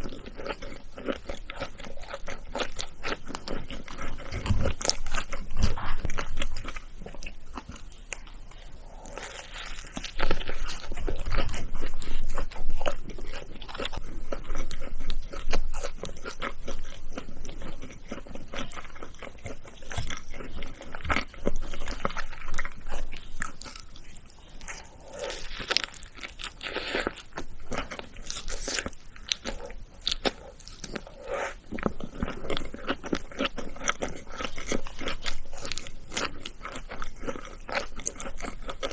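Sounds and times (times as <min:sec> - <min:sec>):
crunchy chewing and biting: 0:00.0 - 0:38.9.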